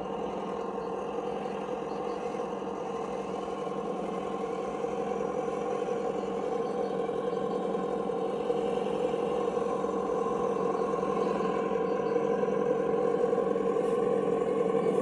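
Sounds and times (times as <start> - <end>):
simulated engine sound from small speaker: 0.0 - 15.0.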